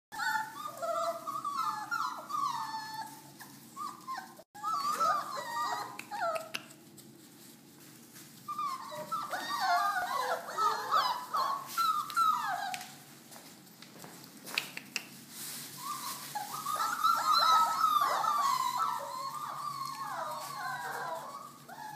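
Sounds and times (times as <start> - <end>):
puppies whining and yelping: 0.1 - 6.8, 8.4 - 13.2, 15.5 - 21.9.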